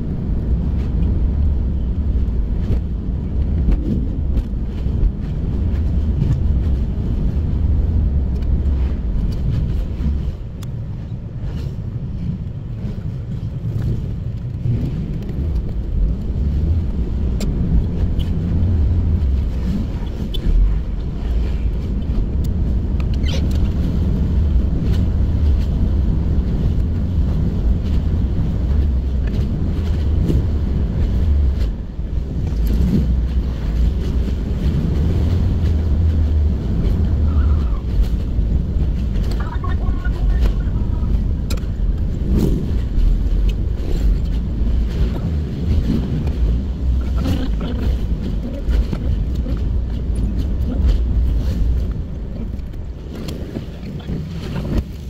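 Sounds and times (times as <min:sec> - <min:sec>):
vehicle road noise rumble: 0:00.0 - 0:55.0.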